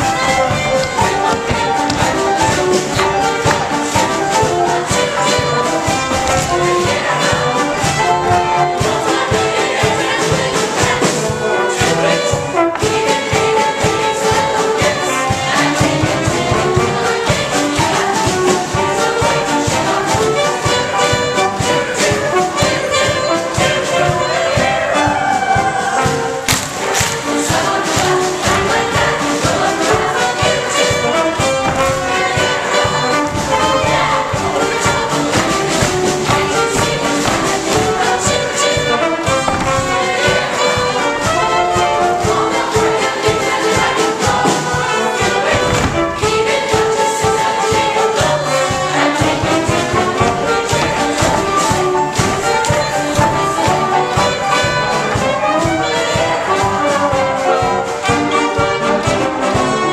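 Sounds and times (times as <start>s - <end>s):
upbeat band music with brass: 0.0s - 59.9s.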